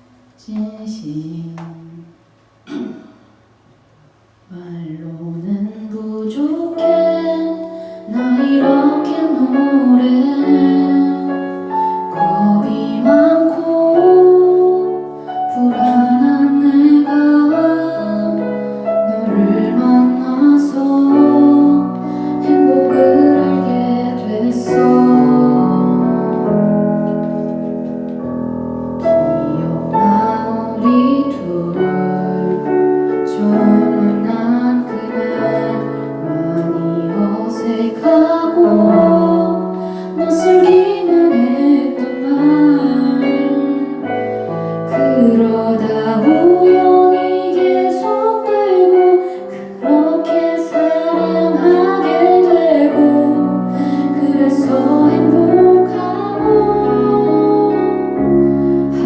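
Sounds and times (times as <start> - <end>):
piano: 0.0 - 59.0
woman singing a ballad: 0.4 - 3.0, 4.5 - 27.1, 29.0 - 59.0.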